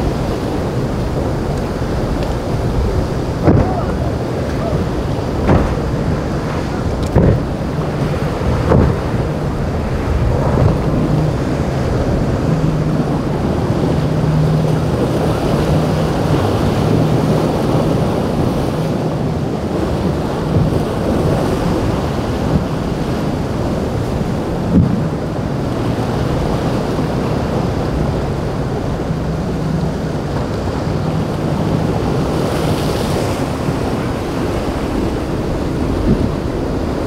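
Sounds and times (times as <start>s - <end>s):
boat engine droning: 0.0s - 37.0s
water rushing and spraying: 0.0s - 37.0s
wind buffeting microphone: 0.0s - 37.0s.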